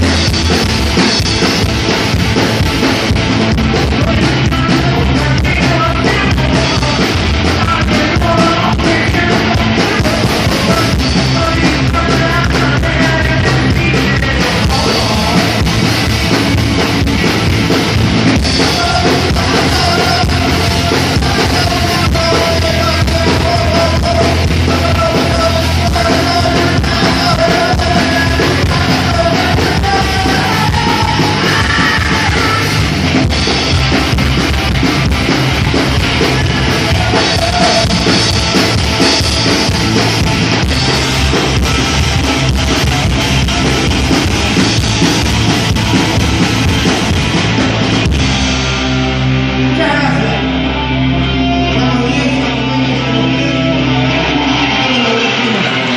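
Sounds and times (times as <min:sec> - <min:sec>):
drum kit: 0:00.0 - 0:55.9
punk rock band playing live: 0:00.0 - 0:55.9
person singing: 0:03.7 - 0:34.8, 0:35.6 - 0:44.6, 0:49.6 - 0:55.9.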